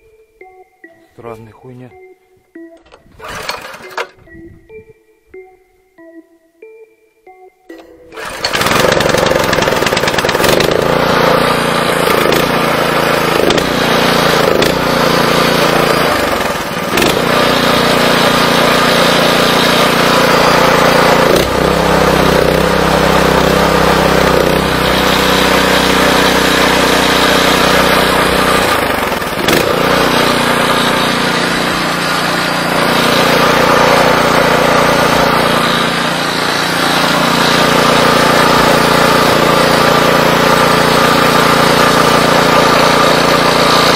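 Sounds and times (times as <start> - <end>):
single-cylinder petrol engine running: 2.8 - 4.3, 8.0 - 43.9.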